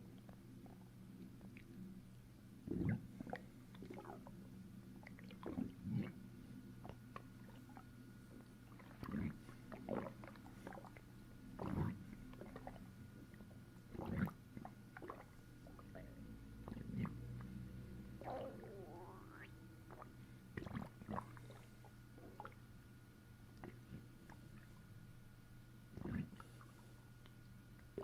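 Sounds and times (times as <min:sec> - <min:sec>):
stomach gurgling: 0:00.0 - 0:22.7, 0:23.5 - 0:24.9, 0:25.9 - 0:28.0
faint low hum: 0:00.0 - 0:28.0.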